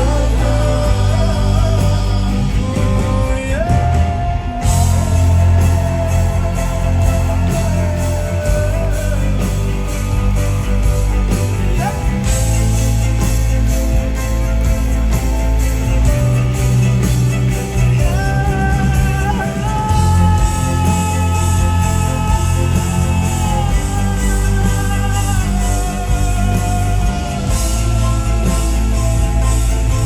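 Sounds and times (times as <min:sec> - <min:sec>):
live pop band music: 0:00.0 - 0:30.0
steady drum beat: 0:00.0 - 0:30.0.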